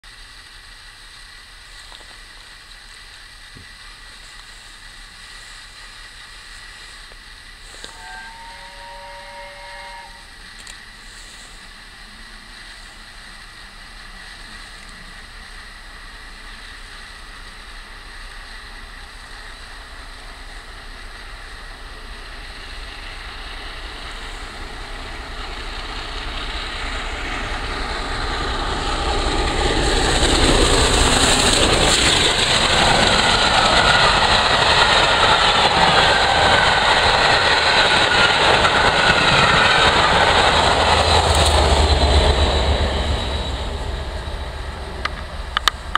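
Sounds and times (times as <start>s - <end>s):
steam locomotive approaching: 0.0s - 45.9s
wheels rushing on rail: 0.0s - 45.9s.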